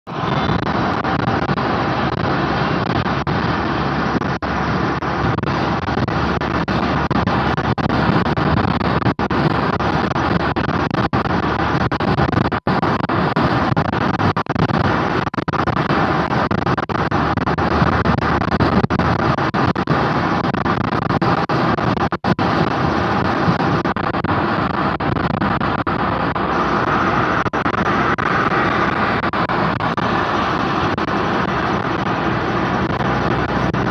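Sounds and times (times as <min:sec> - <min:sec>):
road and tyre noise: 0:00.0 - 0:33.9.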